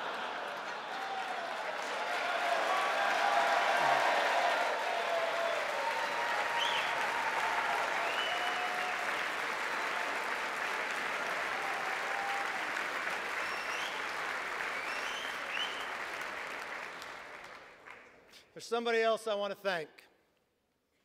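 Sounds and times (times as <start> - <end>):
crowd cheering: 0.0 - 17.8
crowd applauding: 0.0 - 18.2.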